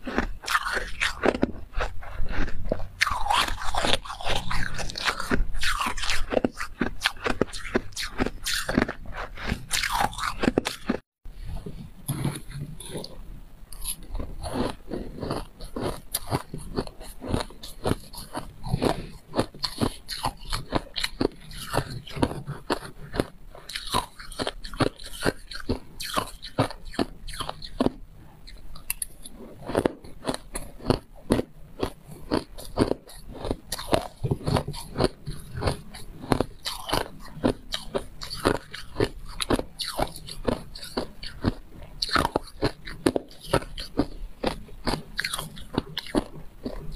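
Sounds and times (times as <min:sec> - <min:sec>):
crunching ice while chewing: 0:00.0 - 0:11.1, 0:11.7 - 0:46.9.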